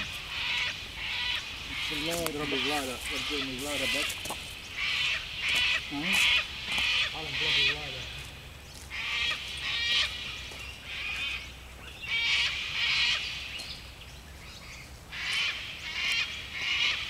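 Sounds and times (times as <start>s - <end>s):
birds giving harsh calls: 0.0s - 17.0s.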